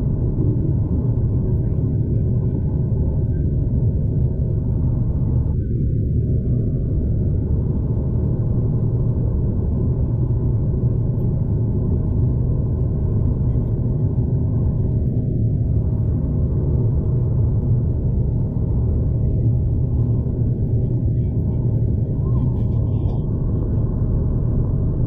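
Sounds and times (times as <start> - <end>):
train rumble inside carriage: 0.0 - 25.0.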